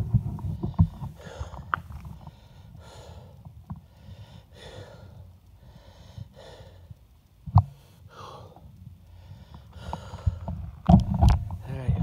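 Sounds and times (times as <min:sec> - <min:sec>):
steady low rumble: 0:00.0 - 0:12.0
person breathing heavily: 0:00.4 - 0:10.8.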